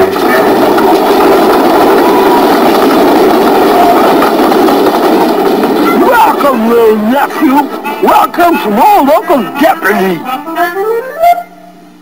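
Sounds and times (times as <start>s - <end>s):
cartoon train rumble: 0.0s - 12.0s.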